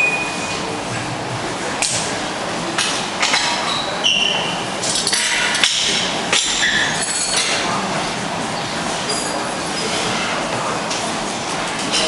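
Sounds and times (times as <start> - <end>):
steady rushing background noise: 0.0 - 4.0, 4.6 - 12.0.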